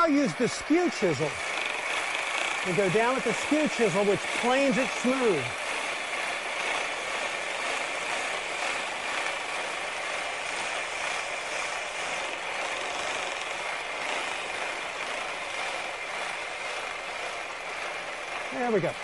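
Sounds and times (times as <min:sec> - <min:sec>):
chisel shaving wood: 0:00.0 - 0:19.0
treadle lathe running: 0:00.0 - 0:19.0.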